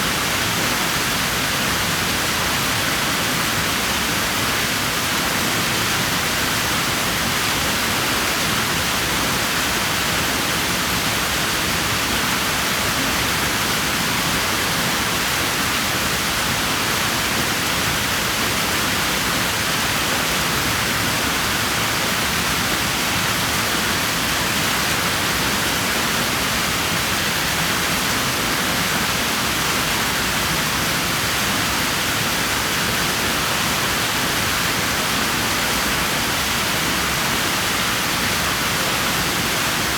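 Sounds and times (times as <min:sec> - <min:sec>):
water rushing in a pool: 0:00.0 - 0:39.9.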